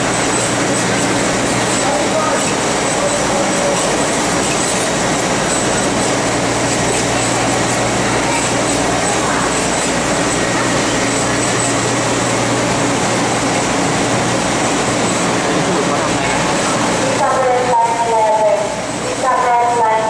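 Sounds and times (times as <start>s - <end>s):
assembly line machinery din: 0.0s - 20.0s.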